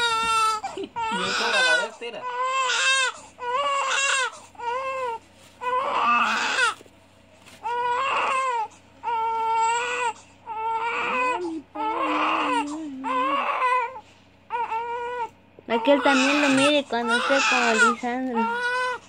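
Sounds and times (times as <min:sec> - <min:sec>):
newborn baby crying: 0:00.0 - 0:06.8, 0:07.6 - 0:19.0.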